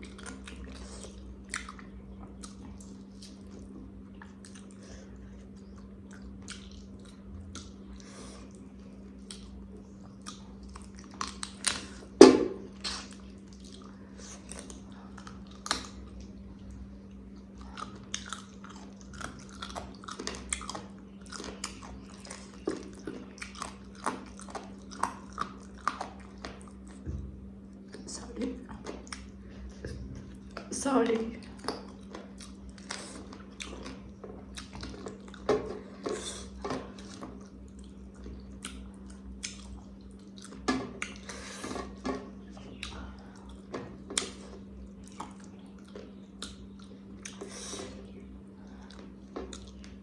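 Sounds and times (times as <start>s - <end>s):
person chewing and biting food: 0.0s - 27.0s, 31.6s - 50.0s
steady low hum: 0.0s - 50.0s.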